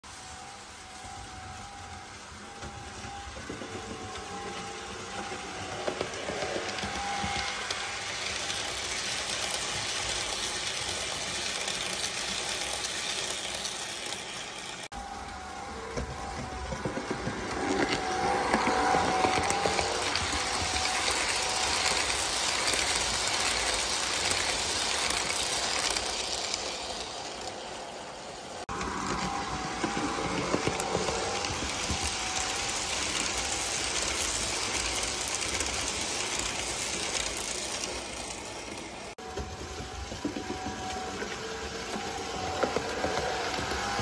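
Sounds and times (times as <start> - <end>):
wheels rattling on rails: 0.0 - 44.0
locomotive motor whirring: 0.1 - 44.0.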